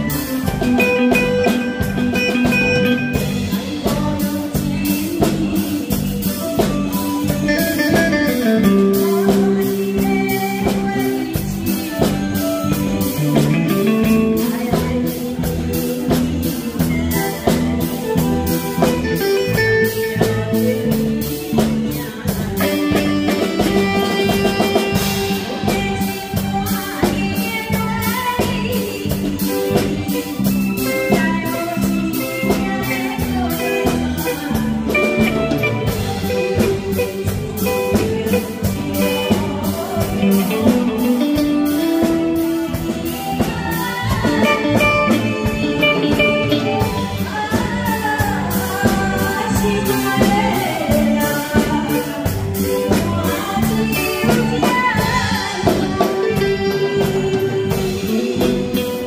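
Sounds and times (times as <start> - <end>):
live band playing ballad: 0.0 - 59.0
woman singing into microphone: 0.0 - 59.0.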